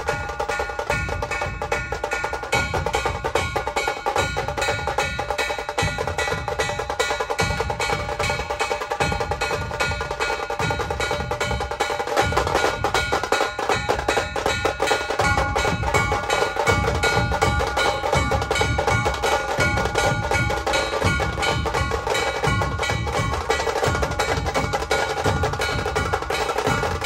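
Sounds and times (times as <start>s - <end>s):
music with fast dense drumming: 0.0s - 27.0s.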